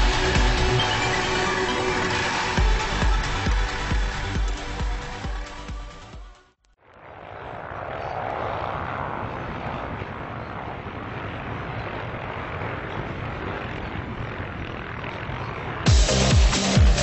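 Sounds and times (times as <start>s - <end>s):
engines running hard: 0.0s - 5.7s, 7.0s - 17.0s.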